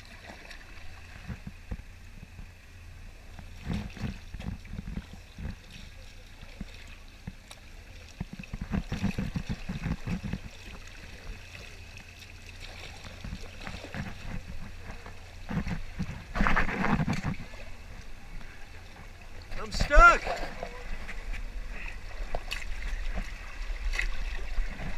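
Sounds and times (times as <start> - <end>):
paddle strokes splashing: 0.0 - 2.5, 3.2 - 24.9
water gurgling around boat: 0.0 - 24.9.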